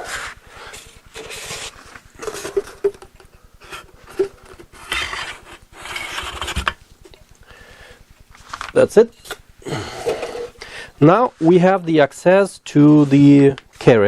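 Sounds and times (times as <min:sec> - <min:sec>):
rustling and scraping: 0:00.0 - 0:07.4, 0:08.2 - 0:14.0.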